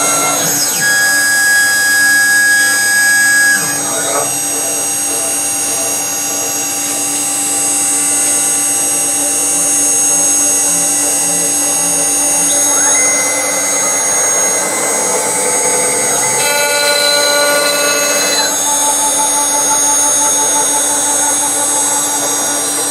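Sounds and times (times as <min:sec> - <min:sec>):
router spindle high whine: 0:00.0 - 0:22.9
stepper motors humming: 0:00.0 - 0:22.9.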